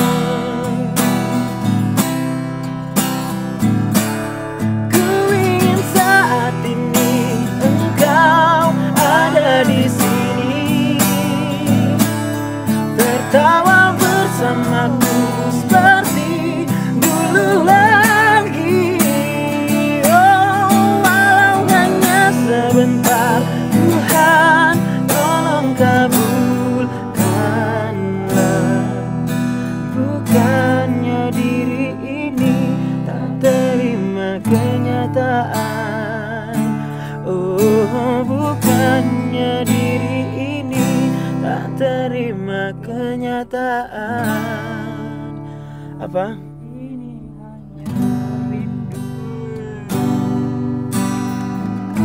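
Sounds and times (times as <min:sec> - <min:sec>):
acoustic guitar strumming: 0:00.0 - 0:52.0
person singing: 0:00.0 - 0:52.0.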